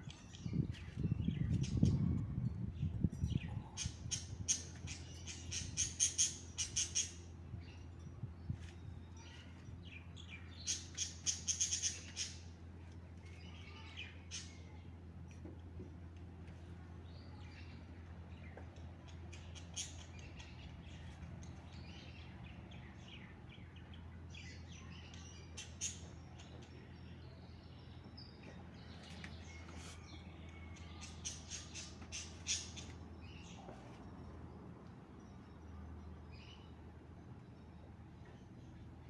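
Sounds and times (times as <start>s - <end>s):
small birds chirping: 0.0s - 39.0s
steady low hum: 0.0s - 39.0s.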